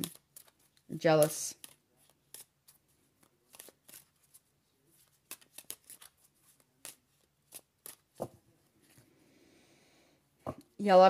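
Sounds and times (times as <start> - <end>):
cards being shuffled: 0.0 - 9.0.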